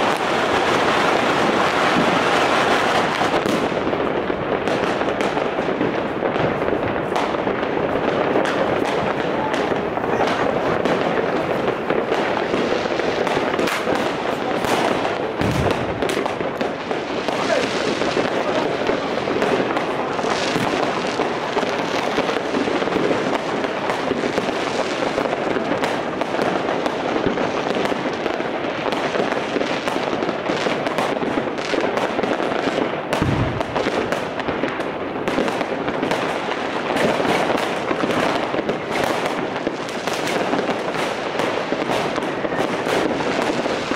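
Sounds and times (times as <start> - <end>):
deep firework booms: 0.0 - 43.9
firecrackers banging and crackling: 0.0 - 43.9.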